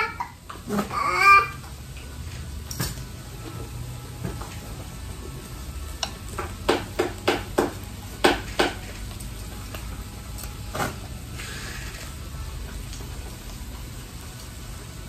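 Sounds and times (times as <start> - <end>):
meat sizzling on grill: 1.7 - 15.0.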